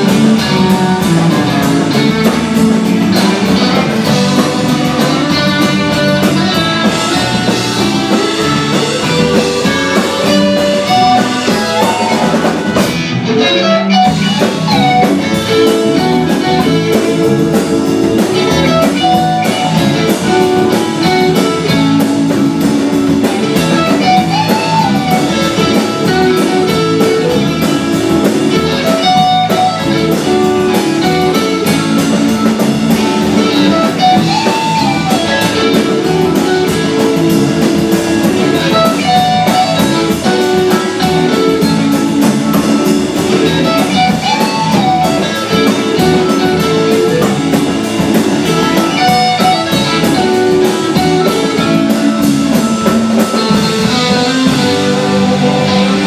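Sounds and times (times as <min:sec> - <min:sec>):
drum kit: 0:00.0 - 0:56.0
electric guitar with bent notes: 0:00.0 - 0:56.0.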